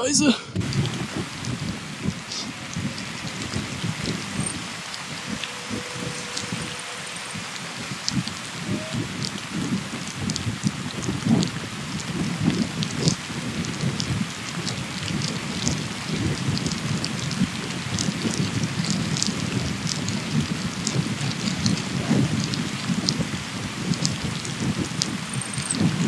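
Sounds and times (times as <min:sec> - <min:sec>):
light ticks: 0:00.6 - 0:23.2, 0:23.9 - 0:25.9
tyre noise on asphalt: 0:00.6 - 0:26.0
wind buffeting microphone: 0:00.6 - 0:26.0.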